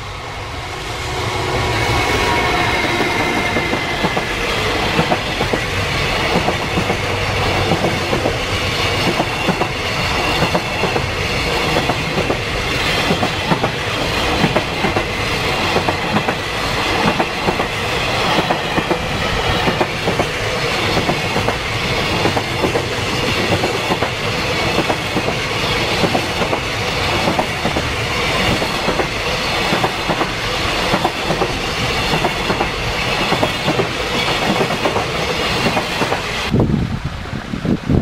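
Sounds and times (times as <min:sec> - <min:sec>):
train wheels rumbling: 0:00.0 - 0:38.0
clickety-clack over rail joints: 0:02.8 - 0:36.5.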